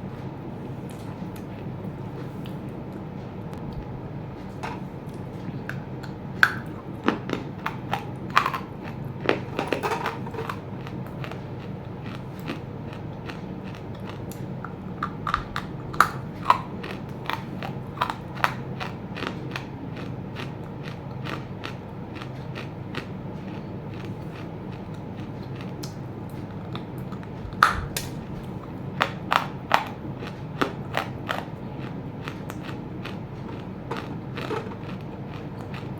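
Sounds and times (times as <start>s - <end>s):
steady low hum: 0.0s - 35.9s
crunchy chewing: 4.4s - 35.9s.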